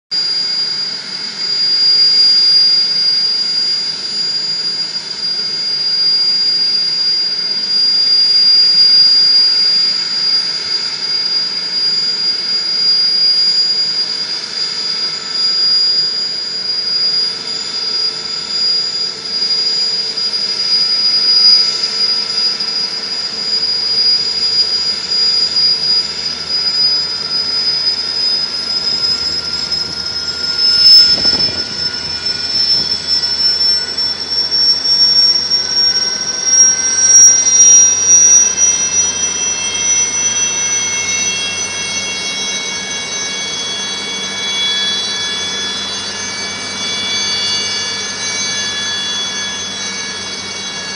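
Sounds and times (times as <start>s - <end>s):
helicopter turbine whine: 0.1s - 50.9s.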